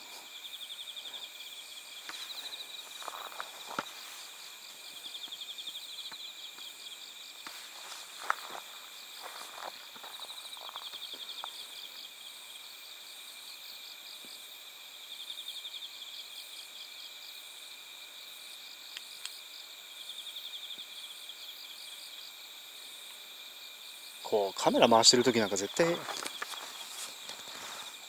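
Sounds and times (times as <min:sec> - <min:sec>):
crickets trilling: 0:00.0 - 0:28.0
high insect hum: 0:00.0 - 0:28.0.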